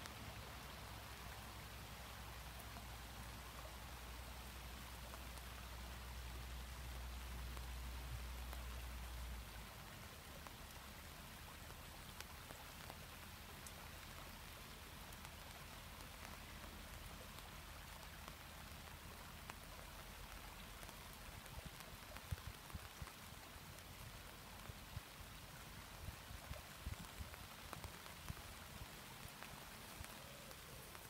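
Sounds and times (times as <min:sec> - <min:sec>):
raindrops ticking on surfaces: 0:00.0 - 0:31.0.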